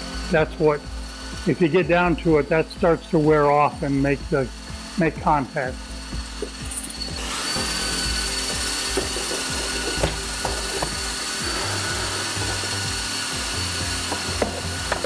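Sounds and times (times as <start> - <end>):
machine running with hiss: 0.0 - 15.0.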